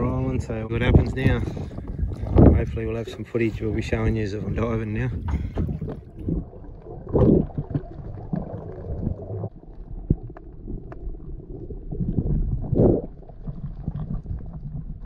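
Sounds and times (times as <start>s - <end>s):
underwater rumbling: 0.0s - 15.0s.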